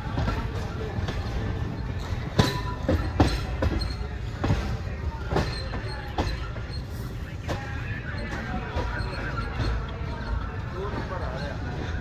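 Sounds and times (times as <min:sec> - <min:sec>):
train low rumble: 0:00.0 - 0:12.0
wheel clanks over rail joints: 0:00.0 - 0:12.0.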